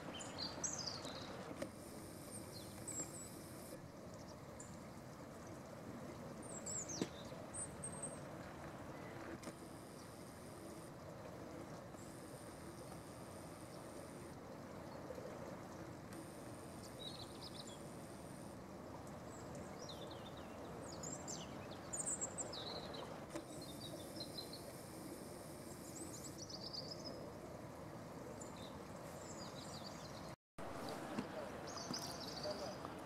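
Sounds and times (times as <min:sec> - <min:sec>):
small birds chirping: 0:00.0 - 0:27.6, 0:28.2 - 0:33.0
low outdoor background noise: 0:00.0 - 0:33.0.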